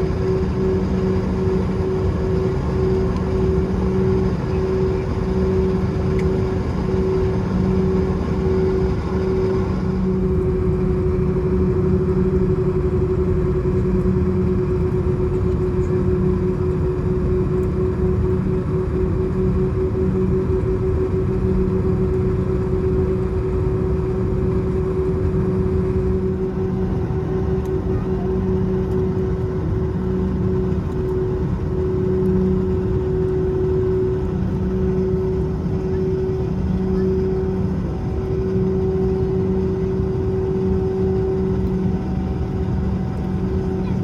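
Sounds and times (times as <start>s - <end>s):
jet engines droning in cabin: 0.0s - 44.0s.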